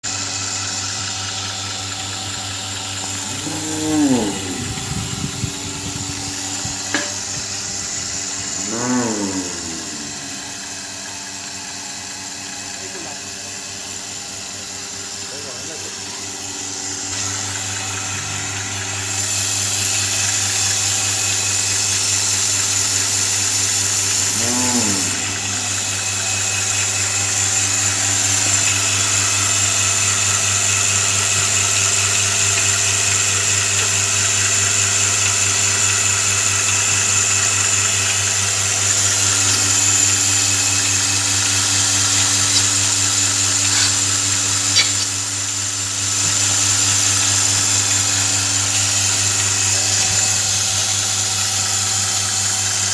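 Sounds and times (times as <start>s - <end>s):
vacuum pump motor humming: 0.0s - 52.9s.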